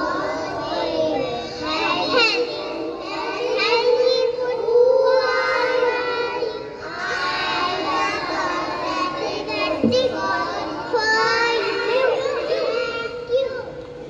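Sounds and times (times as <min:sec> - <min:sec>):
children singing in chorus: 0:00.0 - 0:14.0.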